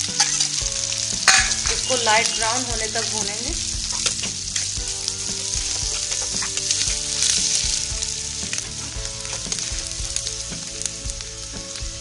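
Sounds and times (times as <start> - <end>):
steel ladle scraping a pan: 0.0 - 11.8
onions sizzling in hot oil: 0.0 - 12.0.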